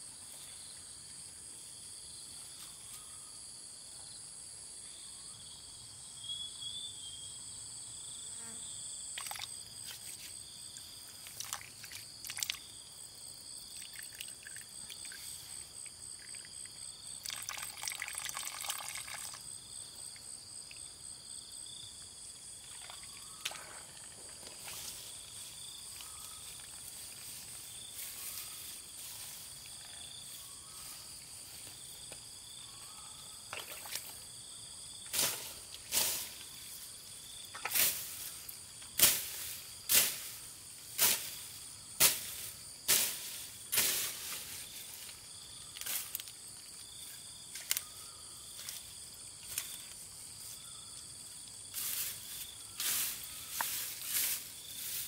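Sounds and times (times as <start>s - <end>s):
insect chirring: 8.4s - 55.0s.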